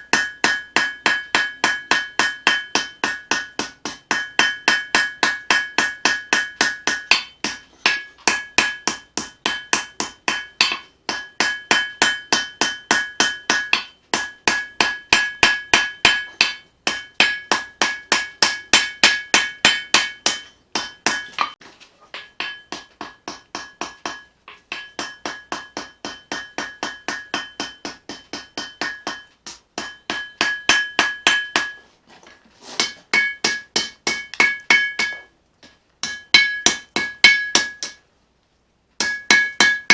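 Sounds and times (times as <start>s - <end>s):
hammer striking anvil: 0.0s - 31.8s, 32.8s - 38.0s, 39.0s - 39.9s.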